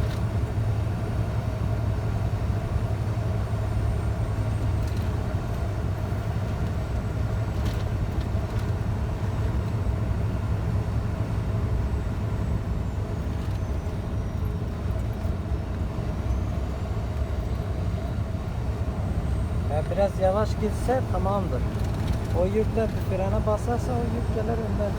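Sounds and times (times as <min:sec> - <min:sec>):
road noise: 0:00.0 - 0:24.9
truck diesel engine droning: 0:00.0 - 0:24.9.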